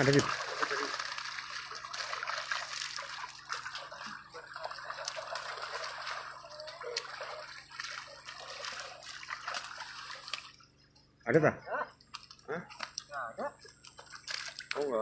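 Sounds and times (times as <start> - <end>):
shallow water trickling and splashing: 0.0 - 11.3, 11.9 - 15.0.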